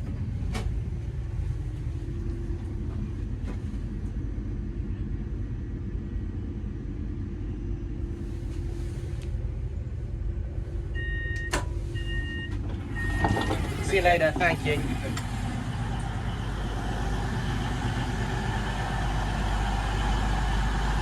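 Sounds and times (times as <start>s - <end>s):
train carriage rumble: 0.0s - 21.0s.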